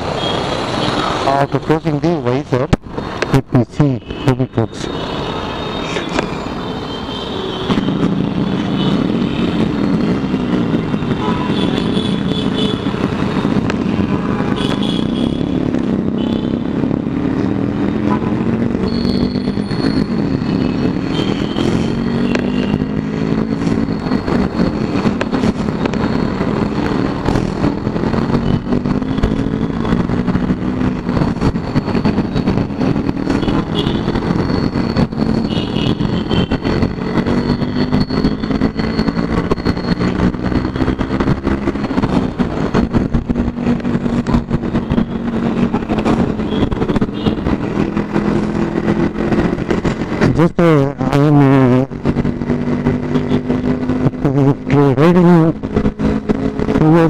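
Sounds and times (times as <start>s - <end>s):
motorcycle engine revving: 7.5s - 57.0s.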